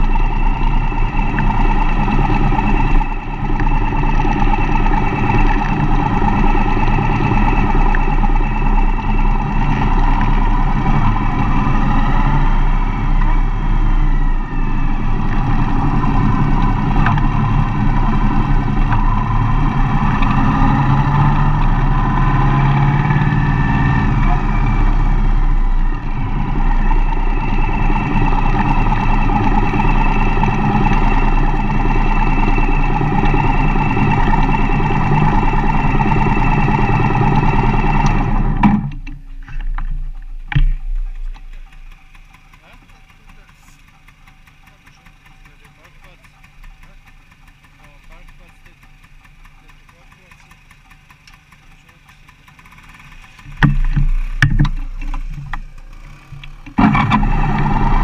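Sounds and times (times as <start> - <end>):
road noise: 0.0 - 58.0
van engine running: 0.0 - 58.0.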